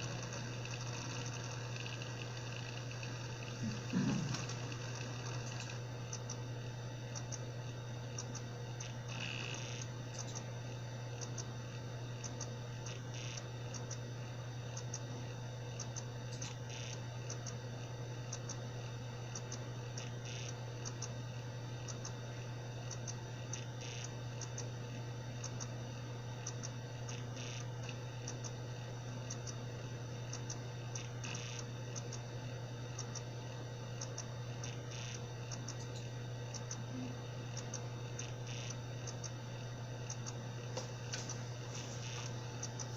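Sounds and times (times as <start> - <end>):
hard drive clicking: 0.0 - 42.9
hard drive spindle hum: 0.0 - 42.9
hard drive ticking: 0.0 - 42.9.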